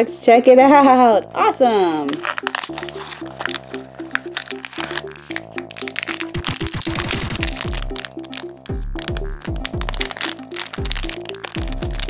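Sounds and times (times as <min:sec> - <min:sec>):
background music: 0:00.0 - 0:12.0
foil wrapper crinkling: 0:02.0 - 0:12.0.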